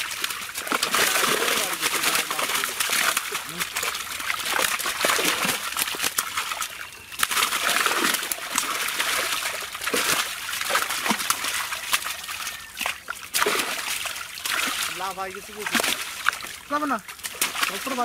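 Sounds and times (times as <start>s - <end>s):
fish splashing in water: 0.0s - 18.0s.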